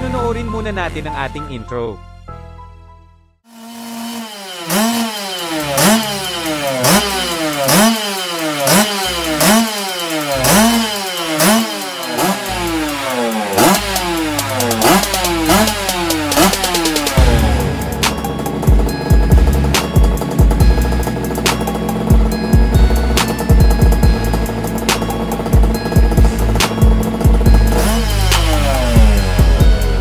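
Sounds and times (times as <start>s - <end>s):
motorcycle engine revving: 3.4s - 30.0s.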